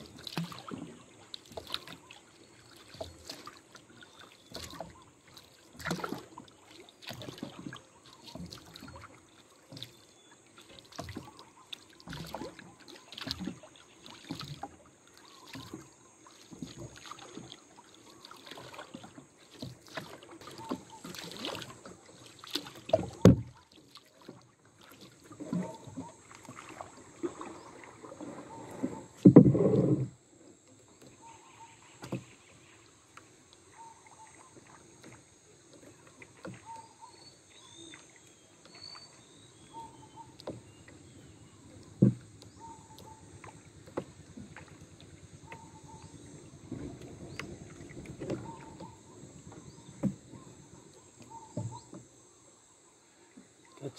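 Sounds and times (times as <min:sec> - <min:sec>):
water lapping against a boat: 0:00.0 - 0:53.9
knocks and handling on a boat: 0:05.7 - 0:17.7, 0:18.6 - 0:32.6, 0:33.2 - 0:52.2.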